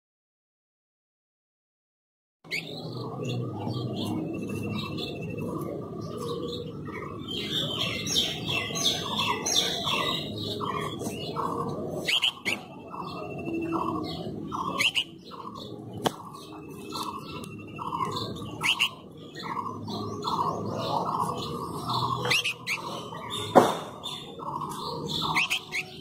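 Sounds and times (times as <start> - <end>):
birds chirping: 2.4 - 26.0
high bird trill: 2.5 - 26.0
steady low hum: 2.5 - 26.0.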